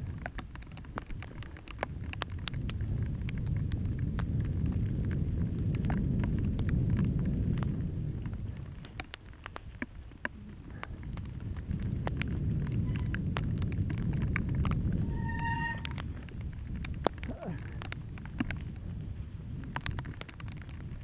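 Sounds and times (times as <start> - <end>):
bike clicks and rattles: 0.0 - 21.0
bike tyres rolling: 0.0 - 21.0
wind rushing over microphone: 0.0 - 21.0.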